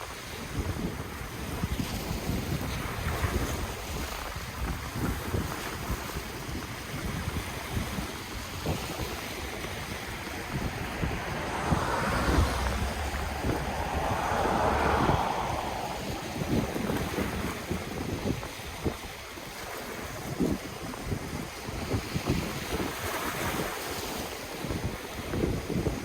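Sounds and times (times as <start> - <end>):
ocean waves on shore: 0.0 - 26.0
wind buffeting microphone: 0.0 - 26.0.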